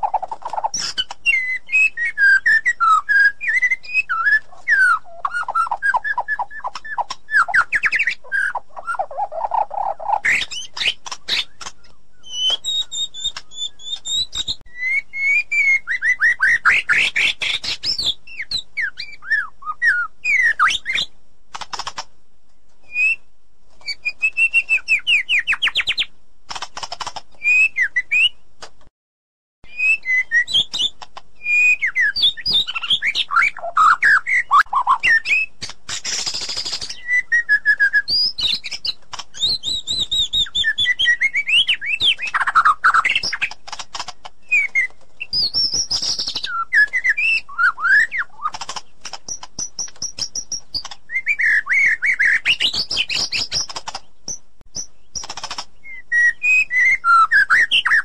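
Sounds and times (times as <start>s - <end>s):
shama singing whistled phrases: 0.7s - 9.1s, 10.2s - 21.1s, 22.9s - 26.1s, 27.4s - 28.4s, 29.7s - 43.5s, 44.4s - 48.6s, 49.3s - 53.7s, 55.8s - 58.0s.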